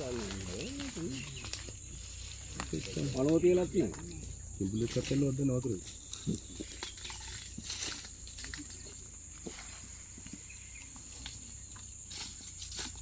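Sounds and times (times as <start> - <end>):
faint clicks and rustles: 0.0 - 13.0
insects droning: 0.0 - 13.0.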